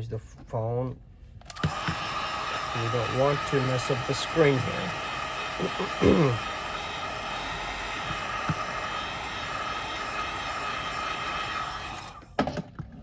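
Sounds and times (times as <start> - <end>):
heat gun blowing with faint whine: 1.4 - 12.4.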